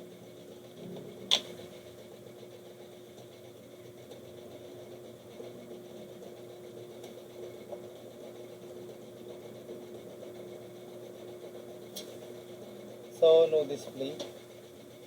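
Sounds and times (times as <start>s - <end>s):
computer fans humming: 0.0s - 15.0s.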